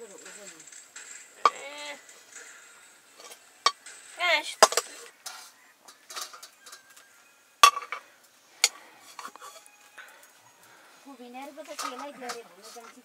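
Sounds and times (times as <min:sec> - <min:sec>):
metal dishes clinking: 0:00.0 - 0:09.7, 0:11.6 - 0:13.0.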